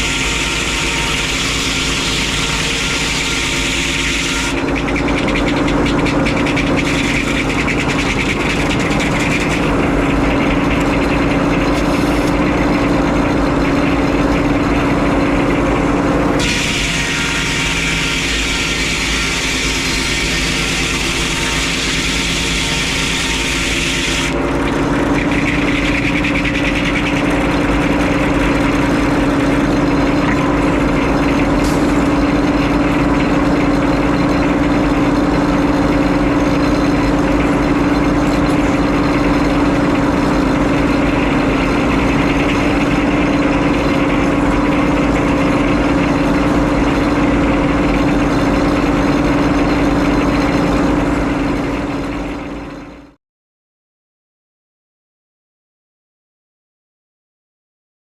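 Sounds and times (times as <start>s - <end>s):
sawmill engine droning: 0.0s - 53.2s.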